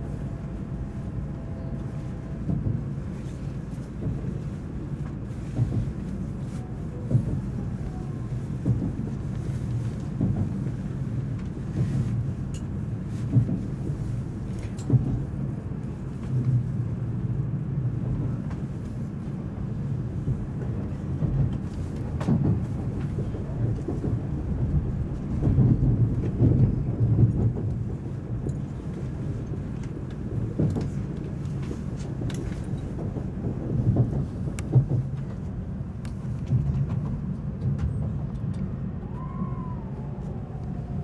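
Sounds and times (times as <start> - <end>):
train running rumble: 0.0 - 41.0.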